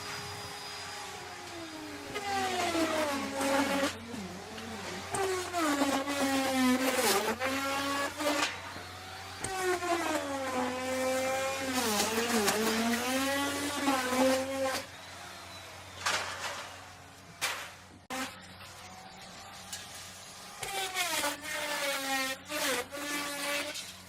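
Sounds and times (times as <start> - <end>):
wood router whining: 0.0 - 24.0.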